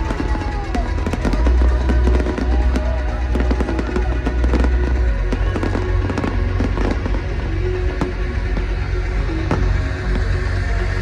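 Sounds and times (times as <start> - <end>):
electronic dance music: 0.0 - 11.0
fireworks popping and crackling: 0.0 - 11.0.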